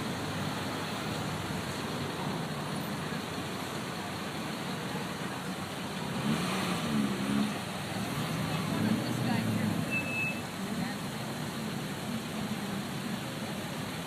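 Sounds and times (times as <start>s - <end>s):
road and traffic noise: 0.0s - 14.0s.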